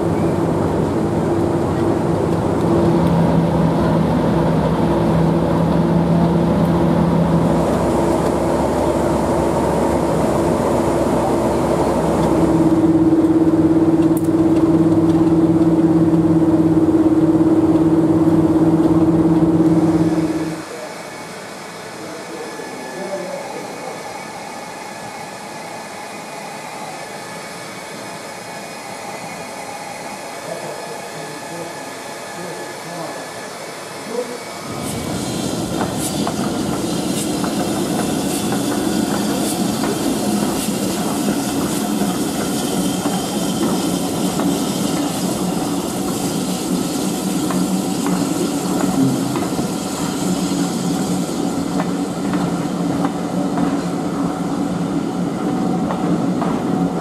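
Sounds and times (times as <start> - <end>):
steam train rumbling past: 0.0 - 57.0.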